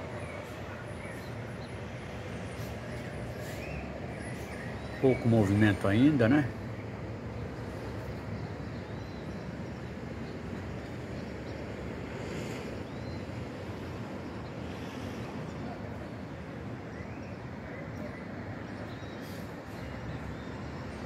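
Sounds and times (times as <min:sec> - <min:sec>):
distant city traffic hum: 0:00.0 - 0:21.0.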